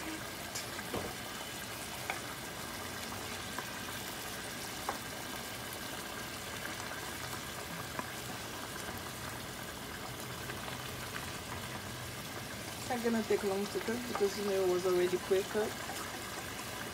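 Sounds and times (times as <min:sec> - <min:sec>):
fish sizzling in a pan: 0:00.0 - 0:16.9.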